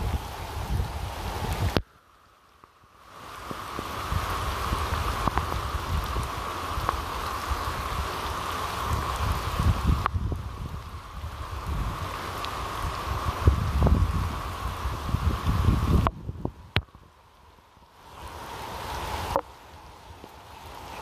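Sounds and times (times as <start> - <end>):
rumbling wind-like noise: 0.0 - 1.9, 3.2 - 21.0
rain falling: 0.0 - 21.0.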